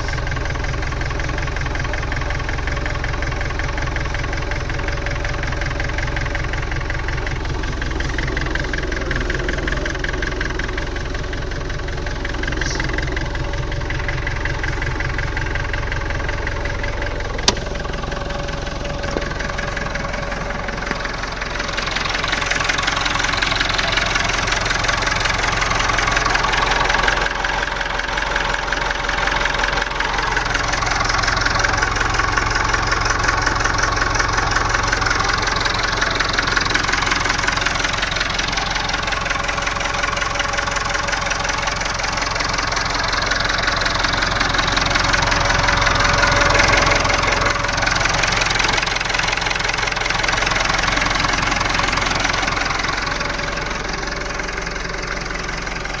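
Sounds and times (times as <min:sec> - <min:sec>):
tractor diesel engine idling: 0:00.0 - 0:56.0.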